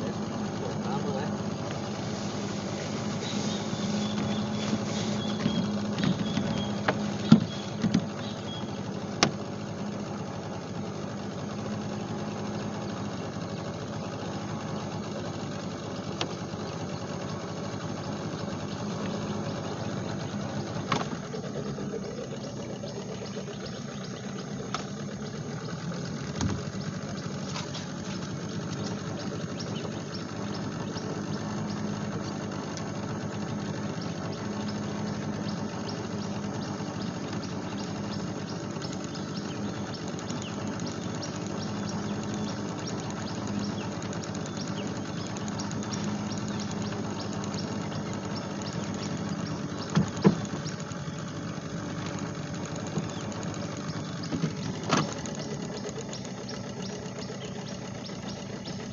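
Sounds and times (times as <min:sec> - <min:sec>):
boat engine running: 0:00.0 - 0:58.9.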